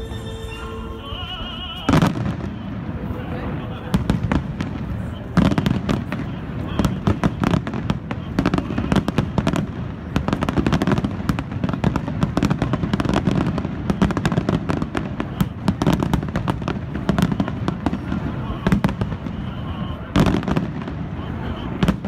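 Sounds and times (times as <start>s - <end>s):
continuous low rumble: 0.0s - 22.0s.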